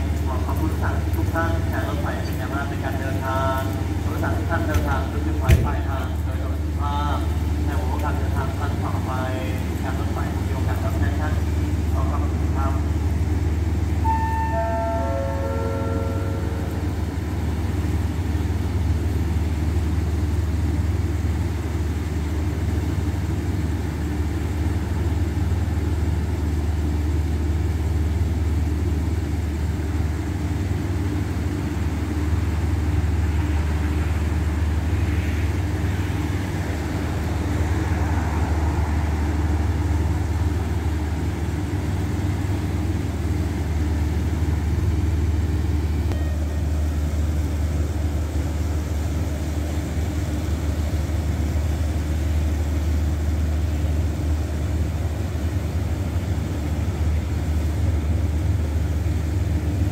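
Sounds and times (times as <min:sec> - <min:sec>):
diesel train engine idling: 0:00.0 - 0:59.9.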